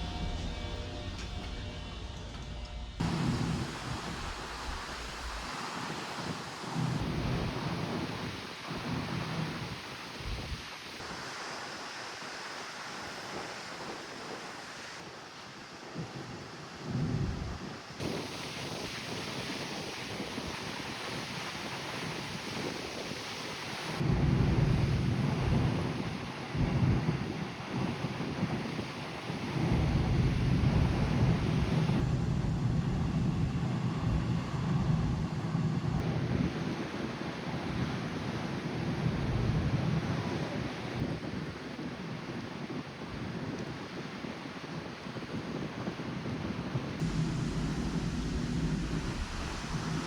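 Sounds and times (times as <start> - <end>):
rushing wind: 0.0 - 50.0
ship noise: 0.0 - 50.0
wind buffeting microphone: 2.8 - 11.2, 15.8 - 50.0
sea: 3.0 - 50.0.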